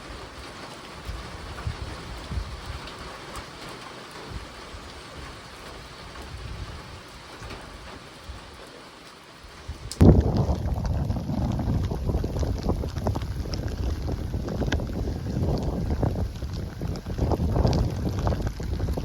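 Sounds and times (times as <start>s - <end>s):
wind on microphone: 0.0s - 3.2s, 4.2s - 8.5s, 9.5s - 19.0s
raindrop ticks: 0.0s - 19.0s
steady rain hiss: 0.0s - 19.0s.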